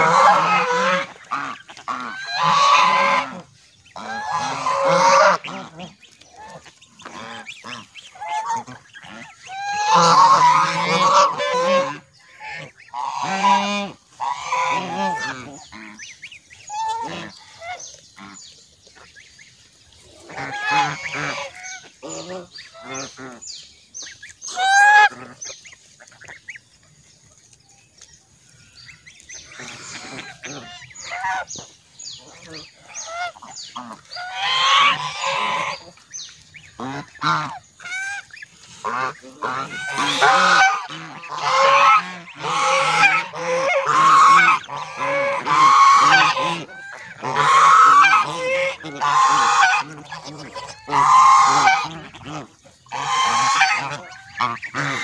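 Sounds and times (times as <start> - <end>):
geese honking: 0.0 - 55.0.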